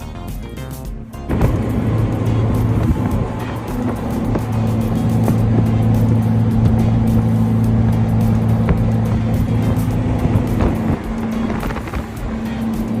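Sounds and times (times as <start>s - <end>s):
boat engine running: 0.0s - 13.0s
music playing: 0.0s - 13.0s.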